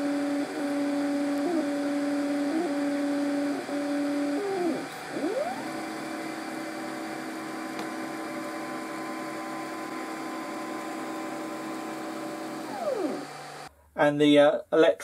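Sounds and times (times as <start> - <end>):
stepper motor whining: 0.0 - 13.7.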